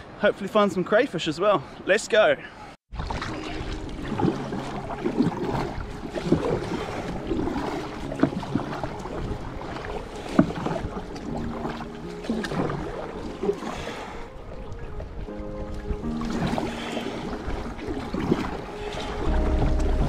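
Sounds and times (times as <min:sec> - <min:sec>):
paddle strokes splashing: 0:02.9 - 0:20.0
water washing along hull: 0:02.9 - 0:20.0.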